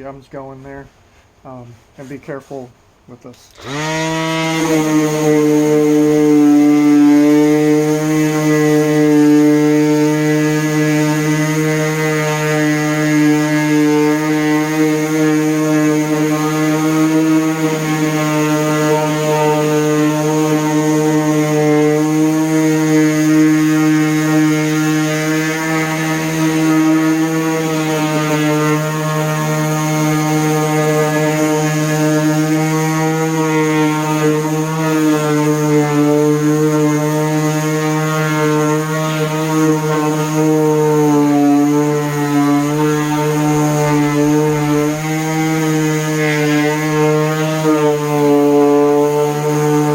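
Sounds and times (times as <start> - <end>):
orbital sander humming: 3.2 - 49.9.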